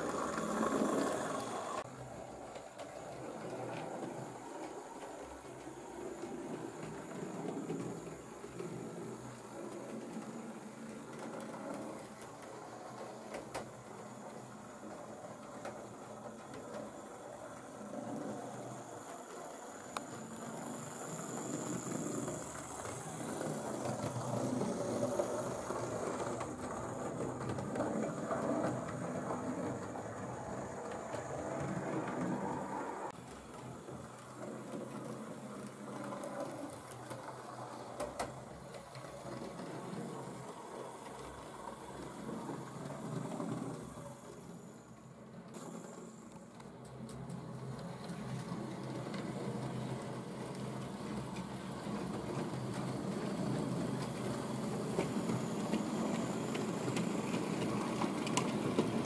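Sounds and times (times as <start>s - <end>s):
model locomotive motor whirring: 0.0s - 59.0s
wheels clicking on rails: 0.0s - 59.0s.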